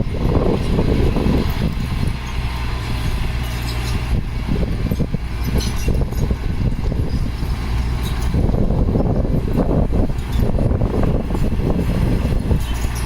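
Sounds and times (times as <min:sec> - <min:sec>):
diesel engine low drone: 0:00.0 - 0:13.0
rough machinery clattering: 0:00.0 - 0:13.0.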